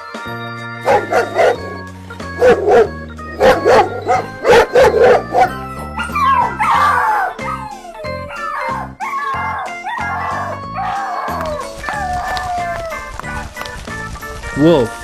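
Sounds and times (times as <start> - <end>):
background music: 0.0 - 15.0
dog barking: 0.8 - 13.5
dog howling: 0.8 - 13.6.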